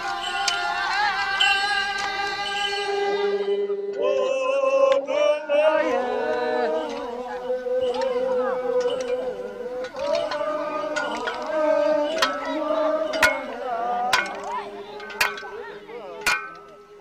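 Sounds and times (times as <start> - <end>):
group of voices chanting: 0.0 - 16.3.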